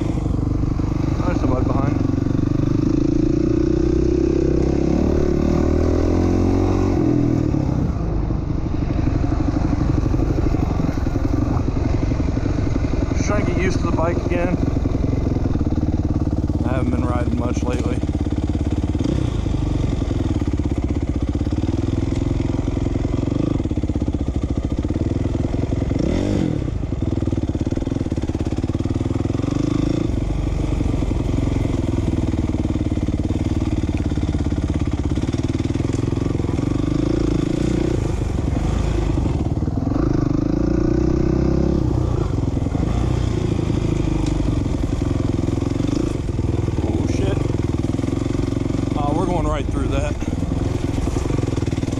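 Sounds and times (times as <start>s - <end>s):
motocross bike engine revving: 0.0s - 8.0s, 9.0s - 23.8s, 24.5s - 51.9s.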